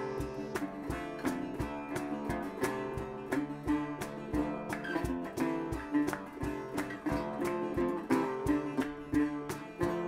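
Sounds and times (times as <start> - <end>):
guitar tune with steady beat: 0.0 - 10.0.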